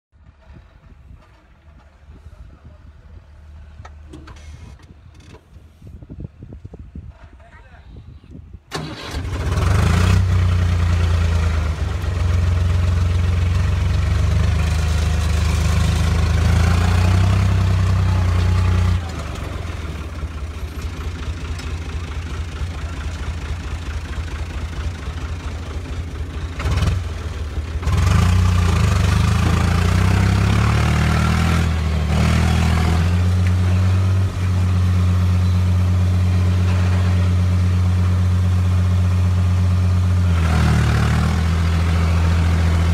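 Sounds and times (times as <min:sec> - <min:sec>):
tractor diesel engine running: 0:00.2 - 0:07.5, 0:08.7 - 0:42.9
tractor driving over stony ground: 0:00.2 - 0:07.6, 0:08.7 - 0:42.9.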